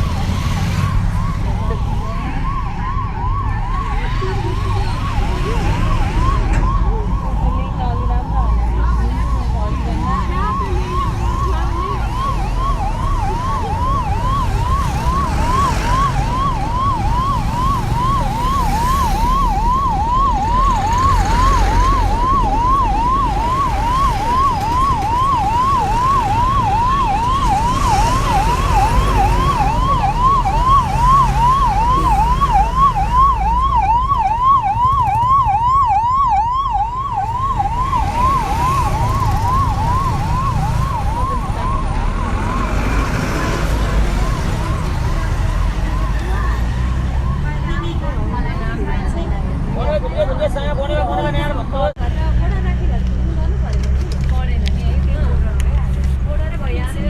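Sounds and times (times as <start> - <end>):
siren yelping: 0.0 - 49.0
road traffic rumble: 0.0 - 57.0.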